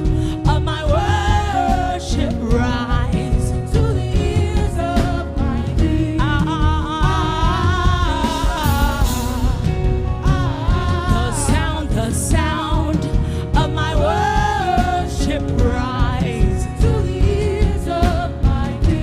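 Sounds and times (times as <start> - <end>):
band with drums: 0.0 - 19.0
sustained keyboard chords: 0.0 - 19.0.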